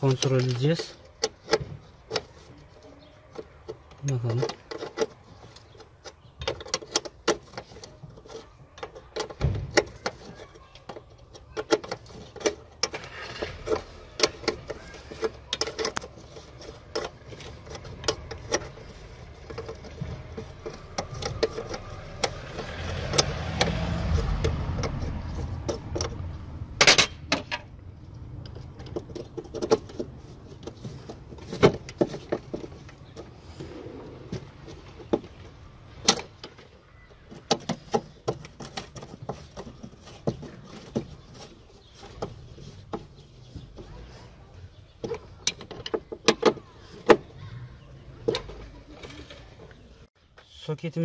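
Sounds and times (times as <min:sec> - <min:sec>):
plastic connectors clicking and rattling: 0:00.0 - 0:33.6, 0:34.3 - 0:44.0.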